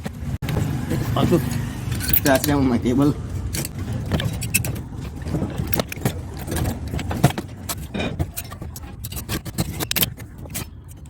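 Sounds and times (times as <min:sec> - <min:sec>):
metal parts clinking and scraping: 0:01.4 - 0:02.8, 0:03.4 - 0:11.0.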